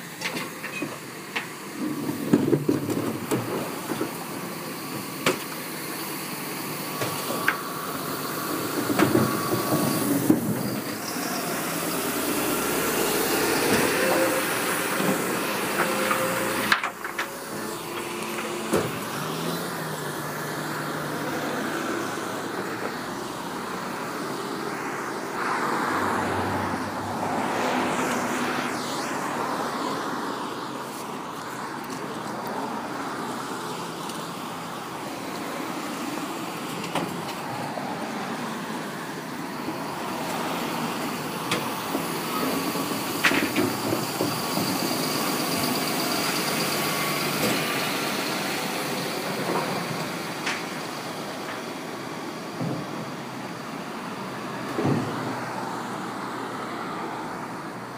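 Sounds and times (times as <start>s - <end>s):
refuse lorry running: 0.0s - 57.9s
street traffic: 0.0s - 57.9s.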